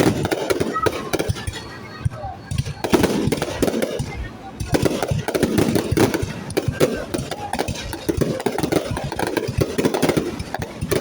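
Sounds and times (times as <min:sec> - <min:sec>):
crowd chatter: 0:00.0 - 0:11.0
fireworks popping and crackling: 0:00.0 - 0:11.0.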